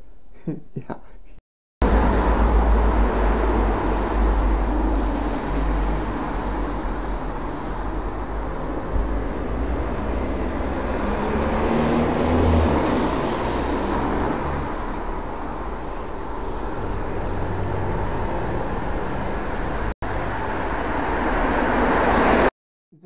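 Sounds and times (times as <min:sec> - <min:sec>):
low rumble: 0:01.8 - 0:11.7, 0:12.7 - 0:21.9
outdoor rushing noise: 0:01.8 - 0:22.5.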